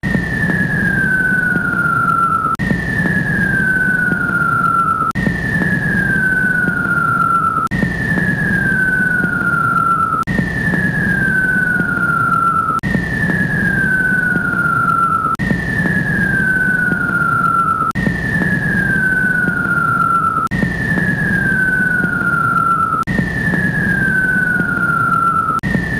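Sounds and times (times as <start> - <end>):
jet engine roar: 0.0 - 25.9
jet engine whine falling: 0.0 - 25.9.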